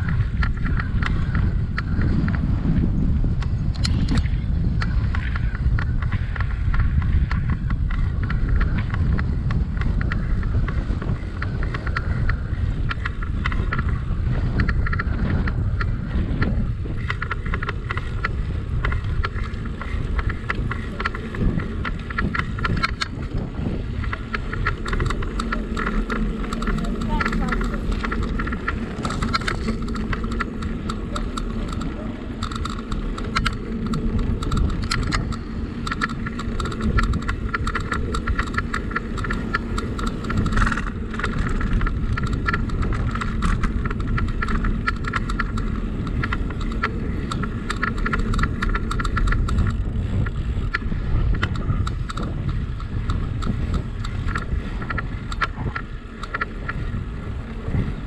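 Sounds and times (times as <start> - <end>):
bike rattling clicks: 0.0 - 58.0
tyres rumbling: 0.0 - 58.0.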